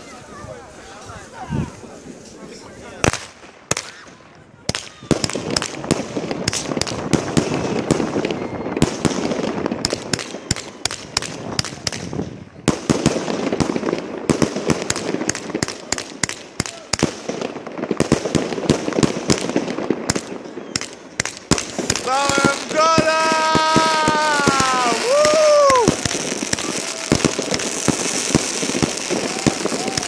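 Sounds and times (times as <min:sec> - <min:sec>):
fireworks bangs: 0:00.0 - 0:30.0
fireworks crackle: 0:00.0 - 0:30.0.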